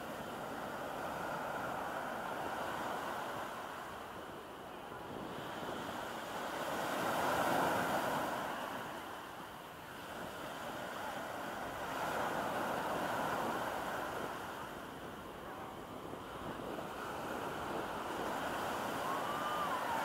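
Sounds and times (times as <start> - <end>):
small waves breaking on shore: 0.0 - 20.0.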